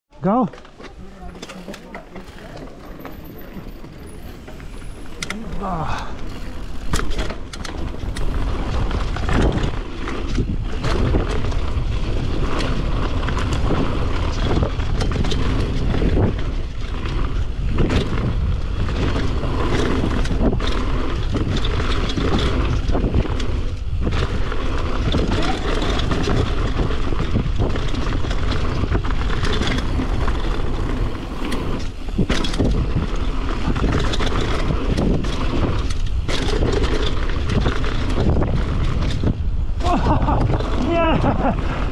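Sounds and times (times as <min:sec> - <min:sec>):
bike rattling and knocking: 0:00.2 - 0:41.9
tyres rolling over dirt: 0:00.2 - 0:41.9
wind rush on microphone: 0:04.2 - 0:41.9.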